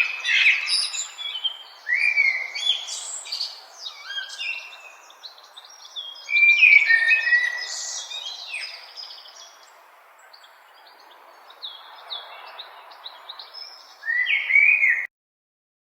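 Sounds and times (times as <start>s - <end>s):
birds chirping and singing: 0.0s - 15.1s.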